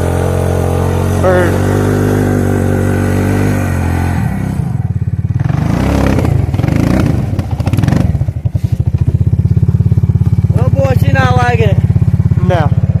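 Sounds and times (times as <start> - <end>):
atv engine bogging down: 0.0 - 13.0.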